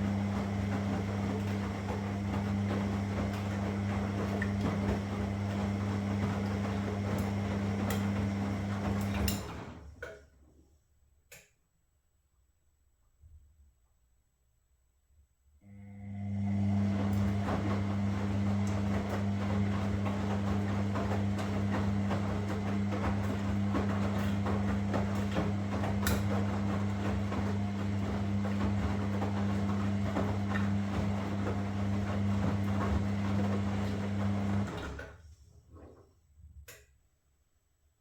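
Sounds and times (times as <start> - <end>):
washing machine humming and clicking: 0.0 - 10.4, 15.6 - 36.9.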